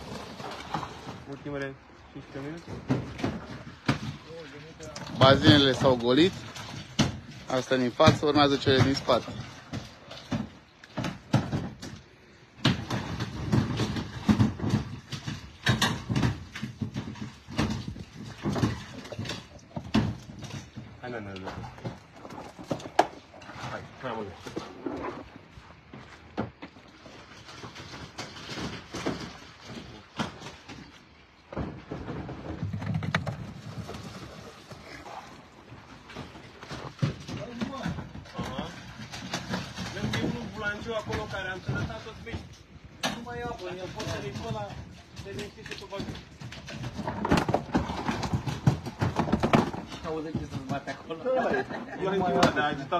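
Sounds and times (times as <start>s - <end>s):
fish thrashing in plastic tub: 0.0s - 52.9s
rush of water down a chute: 0.0s - 52.9s.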